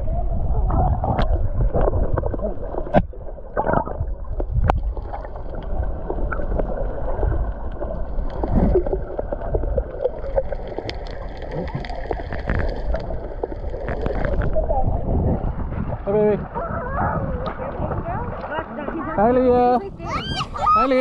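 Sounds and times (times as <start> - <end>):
low rumble: 0.0 - 19.2
water sloshing and gurgling: 0.0 - 21.0.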